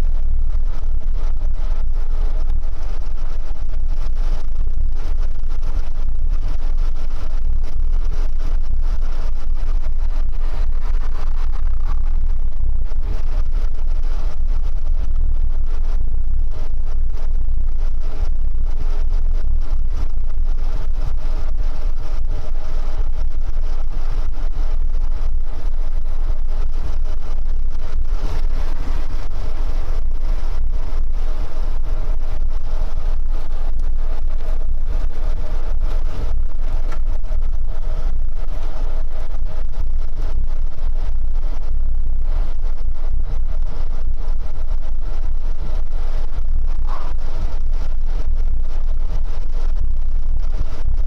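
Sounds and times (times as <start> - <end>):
road noise: 0.0 - 51.0
truck engine drone: 0.0 - 51.0.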